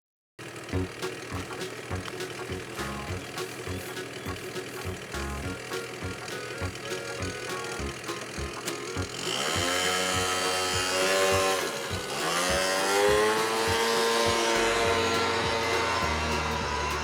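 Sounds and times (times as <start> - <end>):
motorcycle engine accelerating: 0.4 - 17.0
faint music beat: 0.8 - 17.0.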